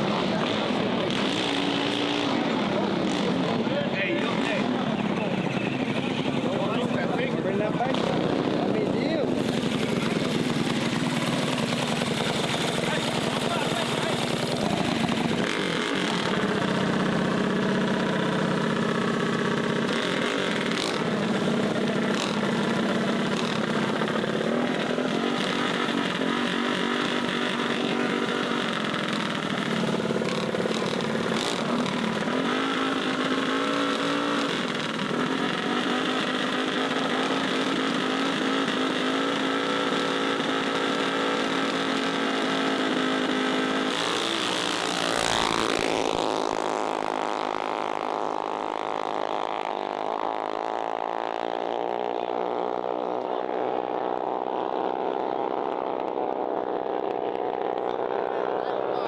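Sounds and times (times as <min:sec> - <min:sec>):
mini bike engines idling: 0:00.0 - 0:50.6.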